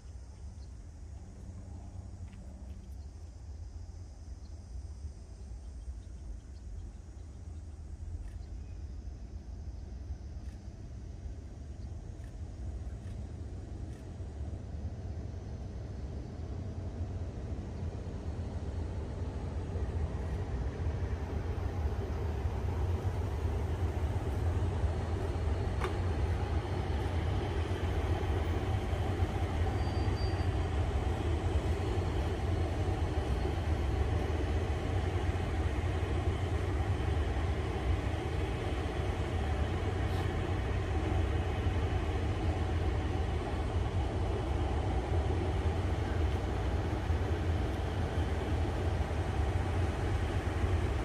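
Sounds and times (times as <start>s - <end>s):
diesel railcar rumbling: 0.0s - 51.0s.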